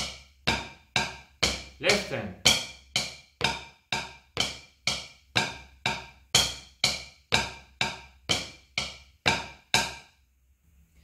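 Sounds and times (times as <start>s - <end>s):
drumsticks tapping practice pad: 0.0s - 10.2s.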